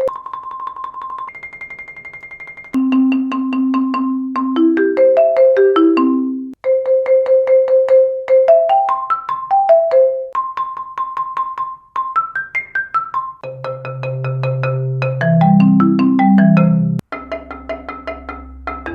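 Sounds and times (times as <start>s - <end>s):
marimba notes and runs: 0.0s - 18.9s.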